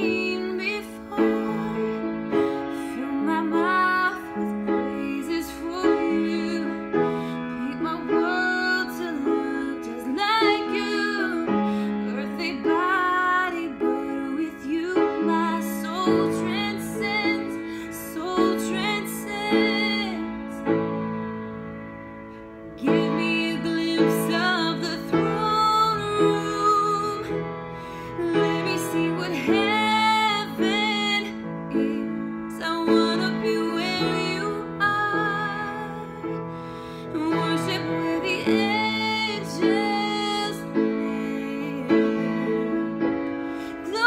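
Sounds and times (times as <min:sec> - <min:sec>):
woman singing a slow ballad: 0:00.0 - 0:20.9, 0:22.8 - 0:44.0
grand piano: 0:00.0 - 0:44.0.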